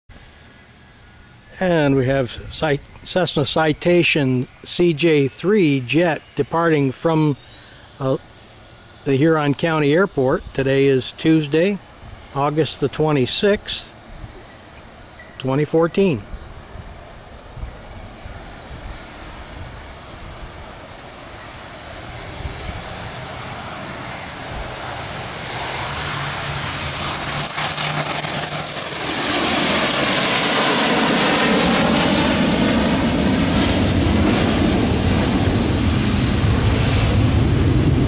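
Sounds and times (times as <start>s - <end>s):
jet engines roaring with whine: 0.1s - 38.0s.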